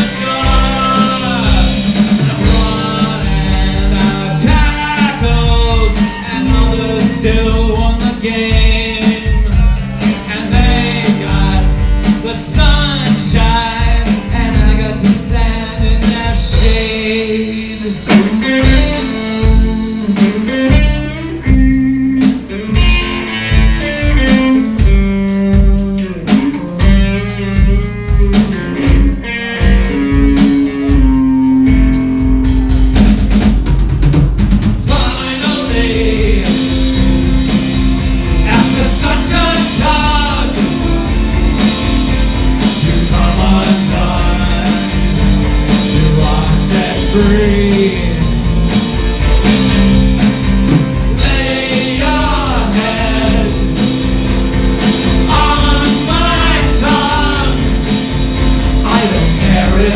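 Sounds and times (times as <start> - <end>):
live band playing: 0.0 - 59.9
steady drum beat: 0.0 - 59.9.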